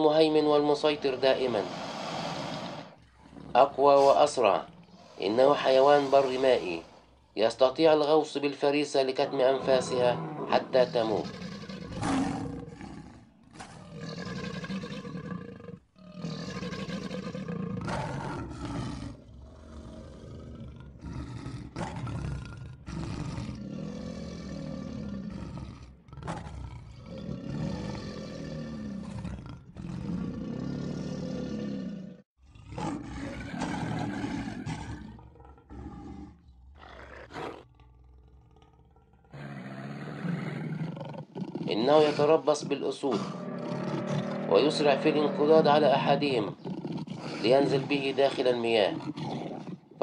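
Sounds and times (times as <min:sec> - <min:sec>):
lions roaring: 0:00.0 - 0:07.4, 0:08.0 - 0:50.0.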